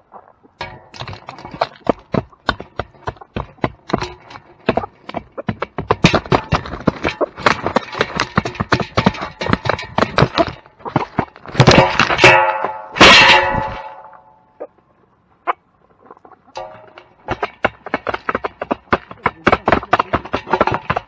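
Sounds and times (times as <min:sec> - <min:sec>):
sharp clicks and knocks: 0:00.6 - 0:14.2, 0:16.6 - 0:21.0.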